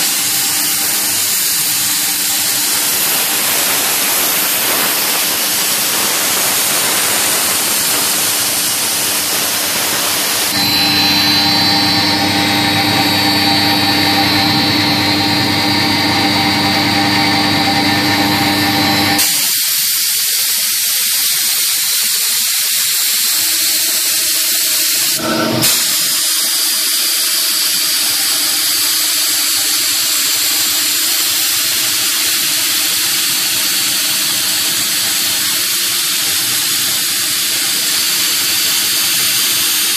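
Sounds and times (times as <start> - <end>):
cnc router hiss and whine: 0.0 - 39.9.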